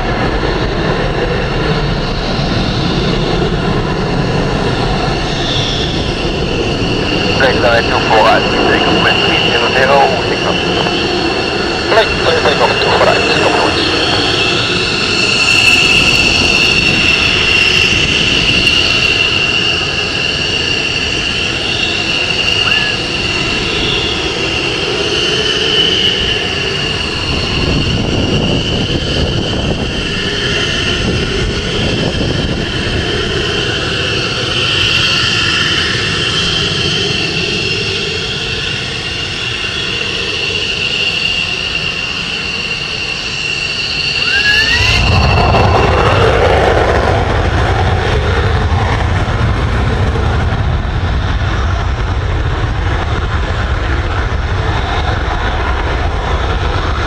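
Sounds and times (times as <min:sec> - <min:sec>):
jet engine running loud: 0:00.0 - 0:57.0.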